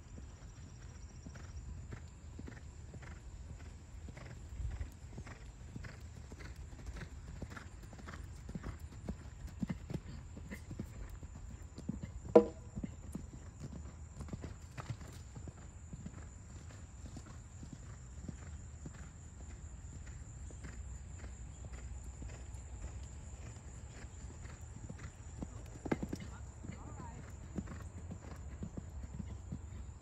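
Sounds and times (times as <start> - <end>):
horse hooves on sand: 0.1 - 30.0.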